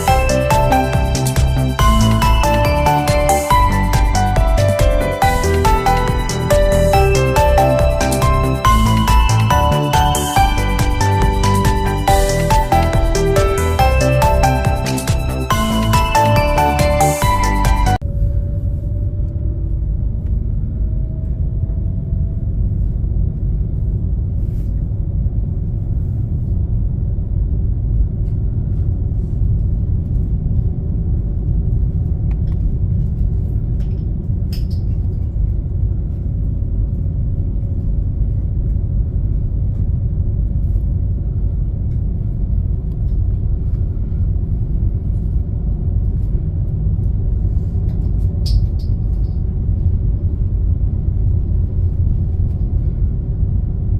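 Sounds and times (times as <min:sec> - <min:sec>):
boat engine low rumble: 0:00.0 - 0:53.9
faint whine: 0:00.0 - 0:53.9.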